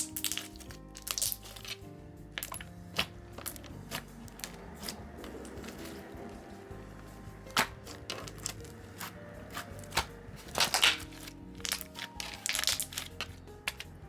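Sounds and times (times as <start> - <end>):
slime squished by hand: 0.0 - 5.0, 7.5 - 13.9
soft background music: 0.0 - 14.0.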